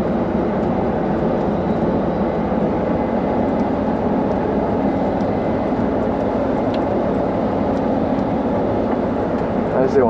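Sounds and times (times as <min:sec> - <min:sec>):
combine harvester engine running: 0:00.0 - 0:10.0.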